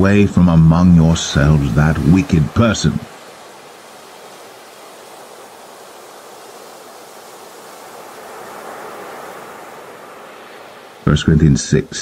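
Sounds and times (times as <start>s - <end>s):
waves breaking: 0.0s - 12.0s.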